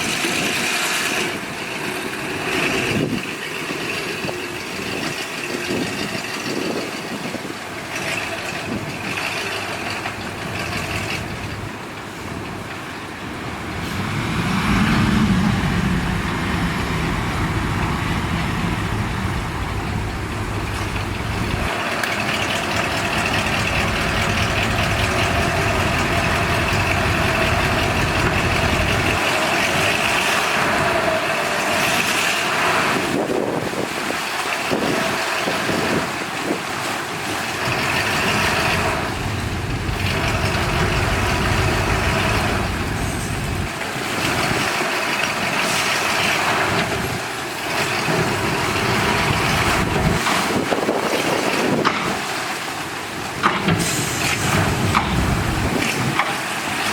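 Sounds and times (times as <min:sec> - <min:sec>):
dump truck diesel engine: 0:00.0 - 0:56.9.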